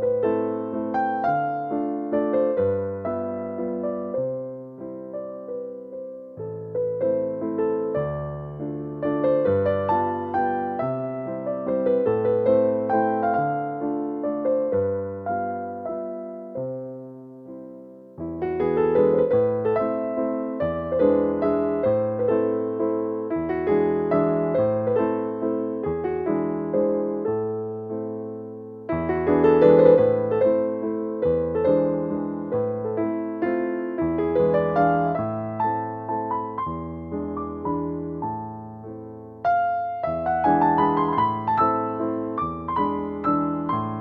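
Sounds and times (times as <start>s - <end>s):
gentle electric piano music: 0.0s - 44.0s.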